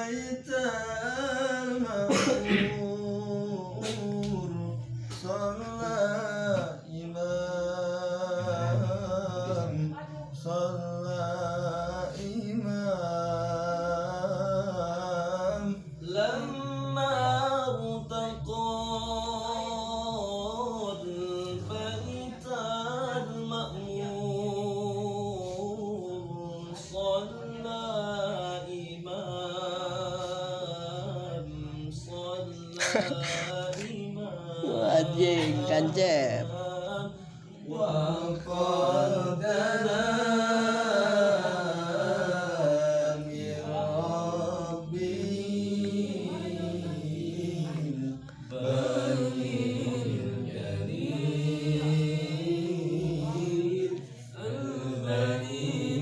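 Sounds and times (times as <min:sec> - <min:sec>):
devotional singing: 0:00.0 - 0:56.0.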